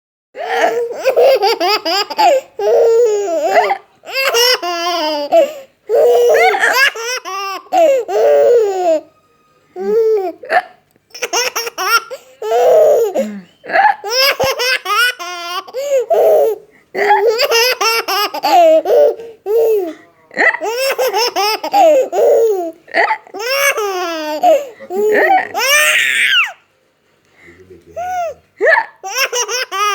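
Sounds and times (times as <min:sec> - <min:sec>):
baby laughing: 0:00.4 - 0:09.1, 0:09.8 - 0:26.6, 0:28.0 - 0:29.9.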